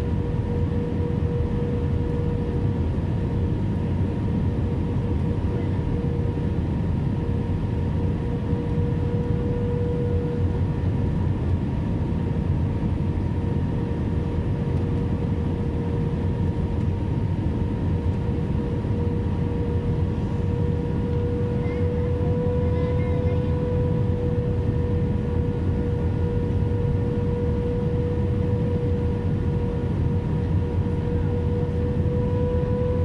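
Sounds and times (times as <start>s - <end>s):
jet engine rumble: 0.0s - 33.0s.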